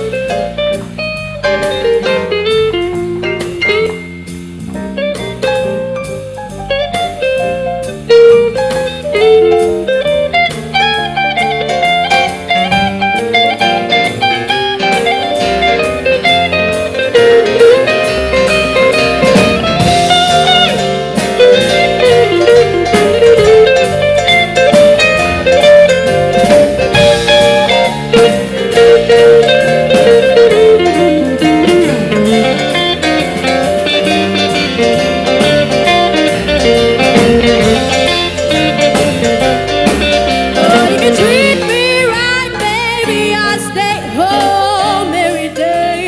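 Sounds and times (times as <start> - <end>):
slow blues band playing: 0.0 - 46.0.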